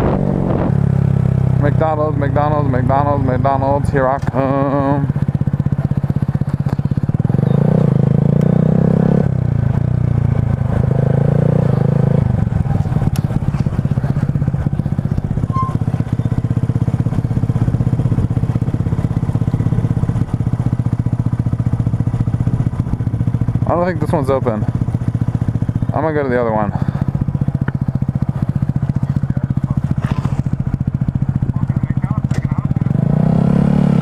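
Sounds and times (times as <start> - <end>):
motorcycle engine revving and idling: 0.0 - 34.0.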